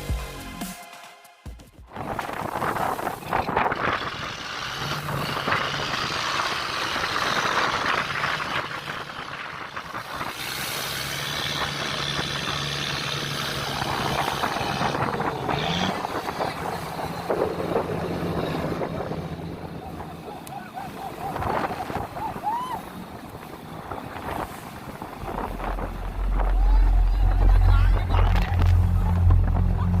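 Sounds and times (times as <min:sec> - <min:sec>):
wind rushing: 0:01.9 - 0:11.0, 0:13.8 - 0:30.0
rough sea: 0:01.9 - 0:30.0
boat engine humming: 0:02.8 - 0:30.0.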